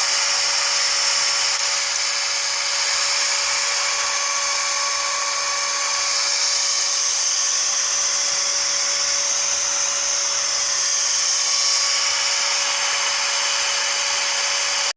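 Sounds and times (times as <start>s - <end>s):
computer fan whining: 0.0s - 14.9s.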